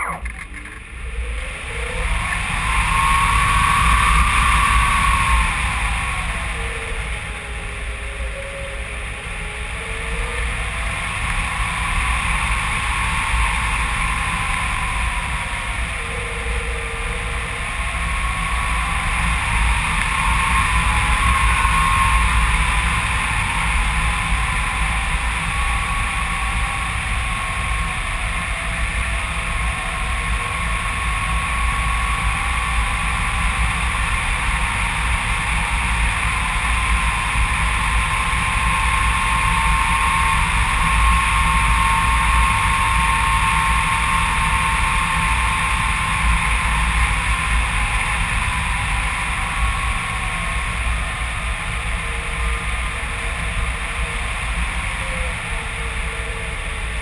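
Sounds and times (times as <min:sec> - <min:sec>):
faint thin whine: 0:00.0 - 0:57.0
wind rumble and hiss: 0:00.2 - 0:57.0.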